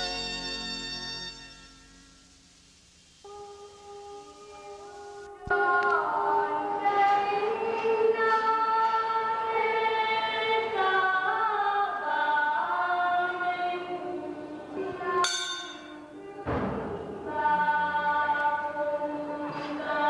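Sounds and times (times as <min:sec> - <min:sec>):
choir singing held notes: 0:03.2 - 0:20.0.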